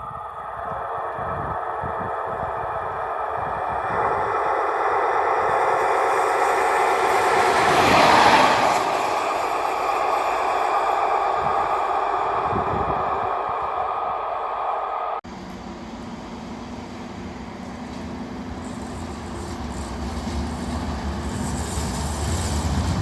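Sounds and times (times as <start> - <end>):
train passing rumble: 0.0 - 23.0.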